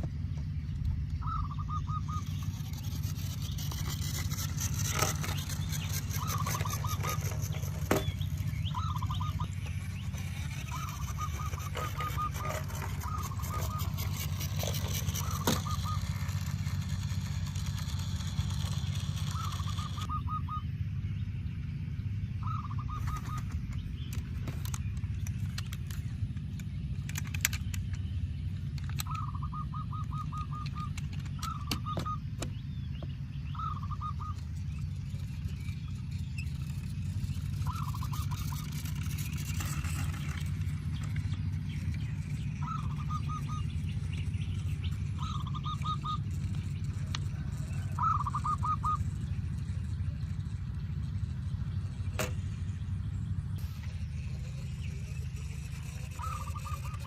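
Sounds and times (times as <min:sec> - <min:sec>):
steady low hum: 0:00.0 - 0:57.0
bird calling in rapid notes: 0:00.2 - 0:57.0.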